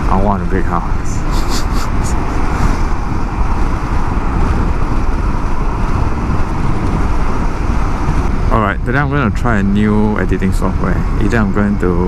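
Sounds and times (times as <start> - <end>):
scooter road noise: 0.0 - 12.0
wind rush: 0.0 - 12.0.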